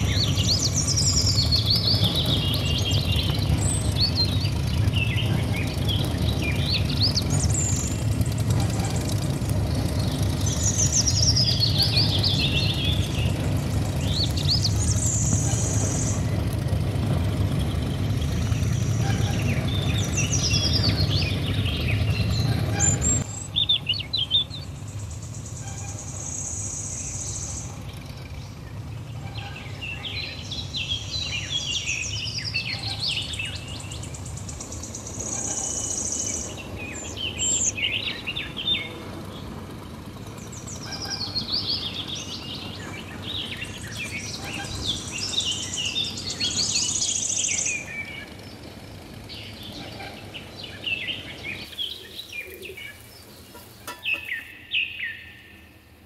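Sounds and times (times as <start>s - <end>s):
birds chirping and calling: 0.0s - 55.8s
low steady rumble: 0.0s - 56.0s.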